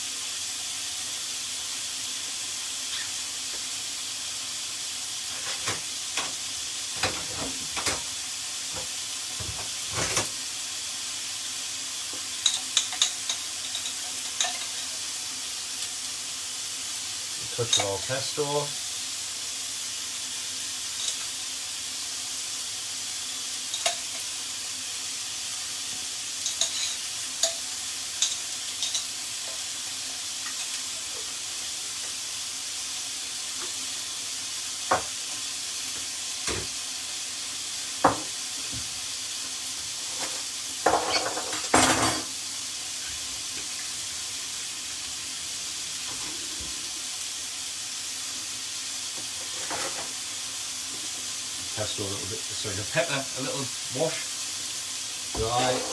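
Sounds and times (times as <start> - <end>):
chicken sizzling in hot oil: 0.0 - 55.9.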